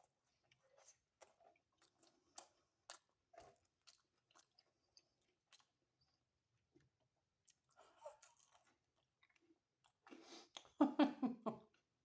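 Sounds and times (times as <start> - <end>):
chewing and wet mouth sounds: 0.0 - 10.8.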